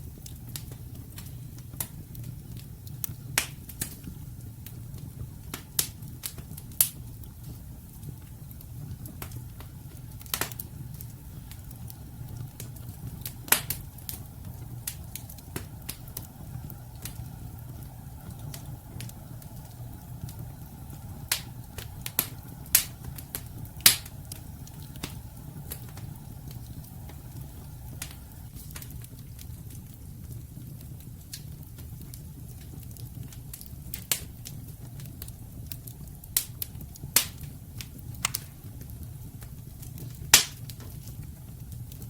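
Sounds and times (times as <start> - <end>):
logs crackling and popping: 0.0 - 42.0
low rumble of flames: 0.0 - 42.0.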